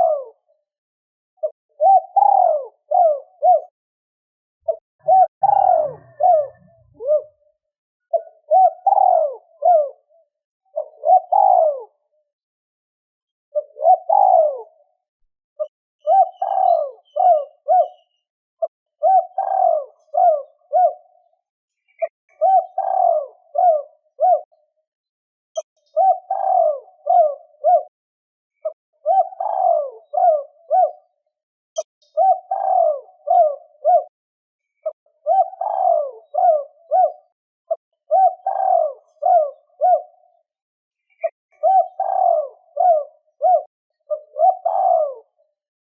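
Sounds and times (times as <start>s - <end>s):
dove cooing: 0.0s - 0.5s, 1.4s - 3.8s, 4.6s - 12.1s, 13.5s - 15.0s, 15.6s - 21.3s, 21.9s - 24.7s, 25.6s - 28.0s, 28.6s - 31.2s, 31.8s - 34.2s, 34.8s - 40.4s, 41.1s - 45.5s.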